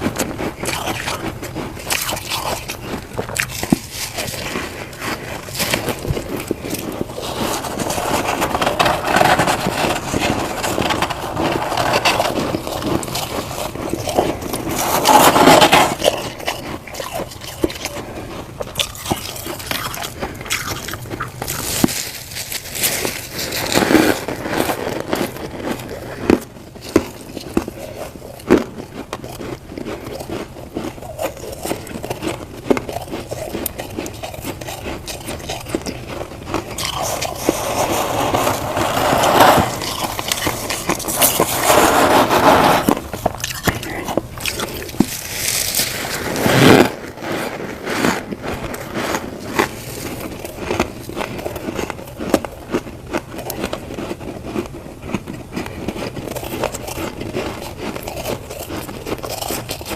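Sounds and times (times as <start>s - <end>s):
frost crunching when chewed: 0.0s - 59.9s.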